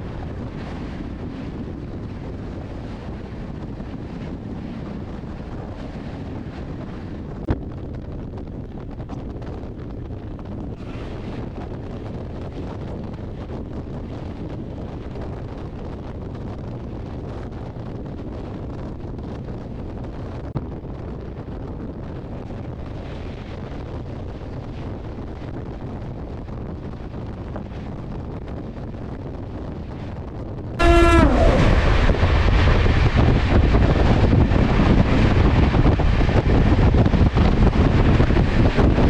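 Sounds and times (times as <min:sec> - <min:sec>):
train running rumble: 0:00.0 - 0:39.0
wind rushing over microphone: 0:00.0 - 0:39.0.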